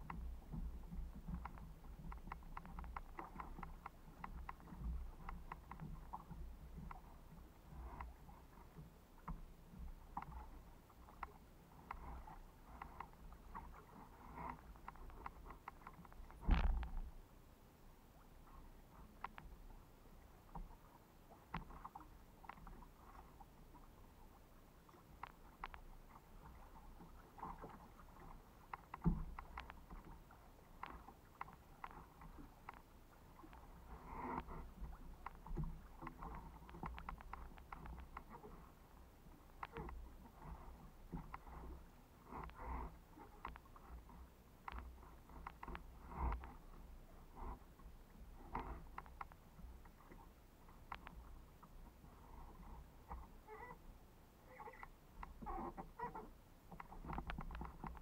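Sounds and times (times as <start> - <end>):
small ticks: 0.0 - 17.1, 18.4 - 19.8, 20.5 - 53.8, 54.4 - 58.0
light water splashes: 0.0 - 58.0.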